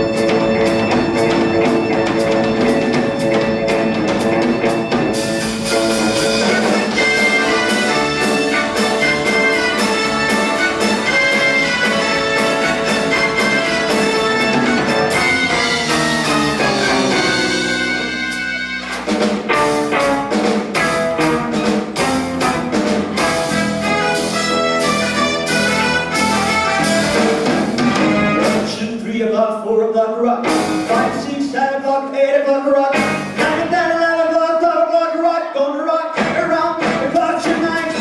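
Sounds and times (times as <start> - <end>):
drum kit beat: 0.0 - 29.0, 30.4 - 31.5, 32.9 - 34.2, 36.2 - 38.0
live band playing: 0.0 - 29.1, 30.4 - 31.8, 32.8 - 34.7, 36.1 - 38.0.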